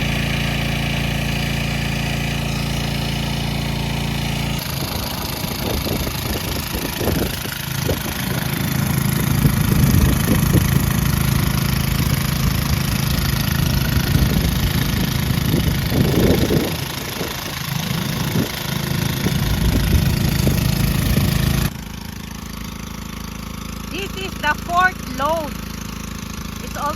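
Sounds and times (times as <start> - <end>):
engine-driven water pump running: 0.0 - 26.9.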